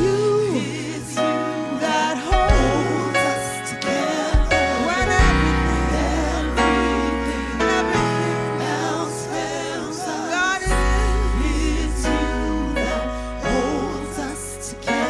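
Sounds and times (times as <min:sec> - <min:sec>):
gospel choir singing: 0:00.0 - 0:15.0
live band with bass and keyboards: 0:00.0 - 0:15.0.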